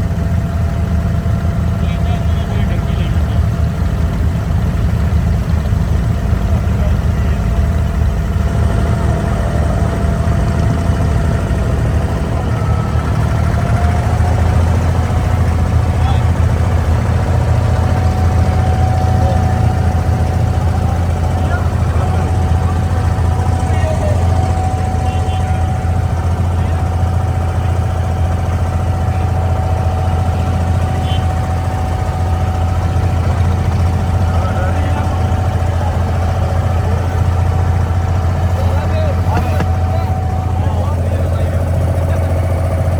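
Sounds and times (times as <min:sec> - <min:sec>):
boat engine rumbling: 0:00.0 - 0:42.9
thin steady whine: 0:00.0 - 0:42.9.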